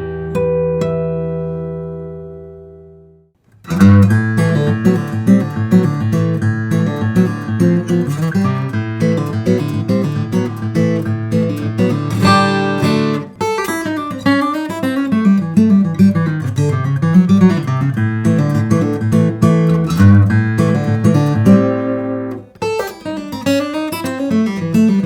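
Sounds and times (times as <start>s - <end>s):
fingerstyle acoustic guitar: 0.0s - 25.0s.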